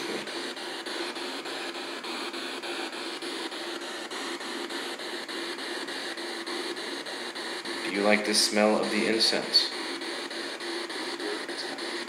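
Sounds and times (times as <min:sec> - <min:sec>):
faint clicks of radio tuning: 0:00.0 - 0:12.0
radio static: 0:00.0 - 0:12.0.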